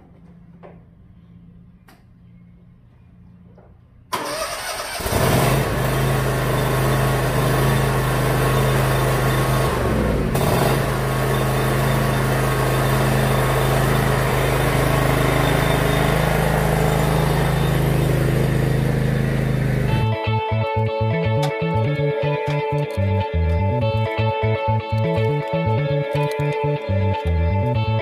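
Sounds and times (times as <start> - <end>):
riding mower engine running: 4.1 - 28.0.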